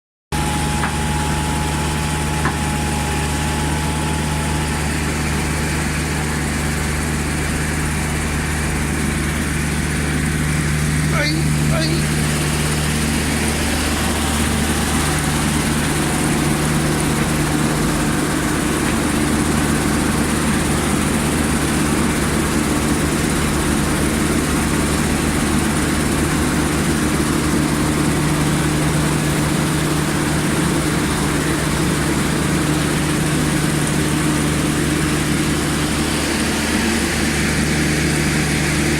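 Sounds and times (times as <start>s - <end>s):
motor hum: 0.3s - 38.9s.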